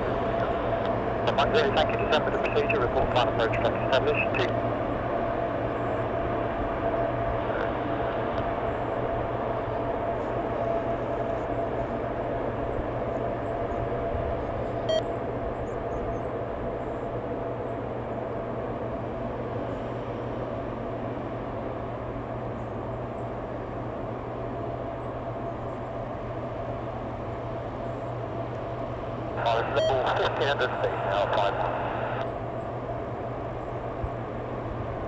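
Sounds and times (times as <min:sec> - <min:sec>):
machine drone with whine: 0:00.0 - 0:35.0.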